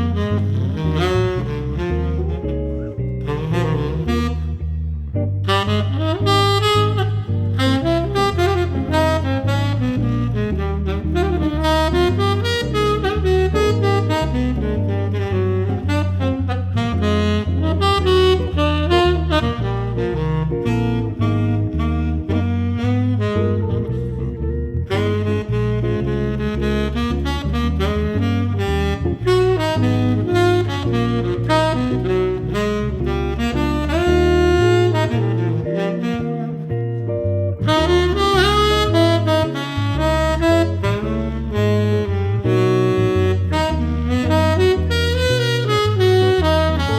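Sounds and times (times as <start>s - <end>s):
saxophone jazz music: 0.0s - 46.9s
walking bass line: 0.0s - 46.9s.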